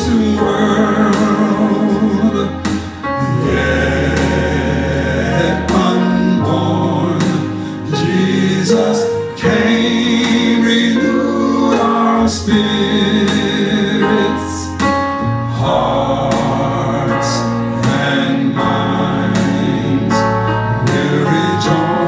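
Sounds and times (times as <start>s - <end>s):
gospel singing with instruments: 0.0s - 22.0s.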